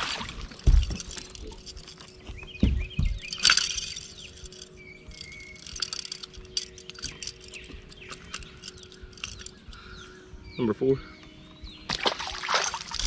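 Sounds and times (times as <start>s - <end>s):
metal hooks clinking: 0.1s - 10.2s, 12.6s - 13.0s
birds chirping: 0.2s - 13.0s.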